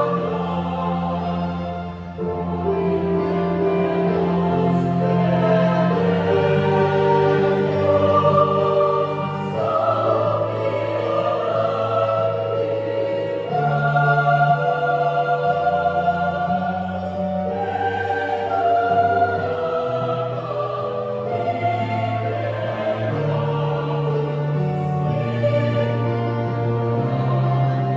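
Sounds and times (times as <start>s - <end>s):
youth choir singing chords: 0.0s - 27.9s.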